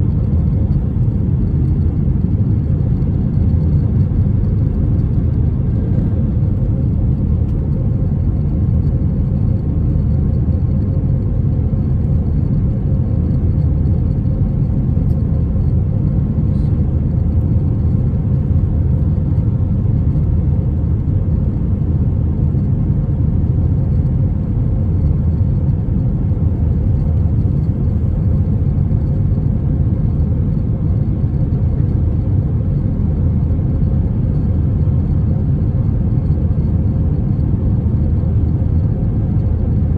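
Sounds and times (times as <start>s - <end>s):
aircraft cabin rumble in flight: 0.0s - 39.9s.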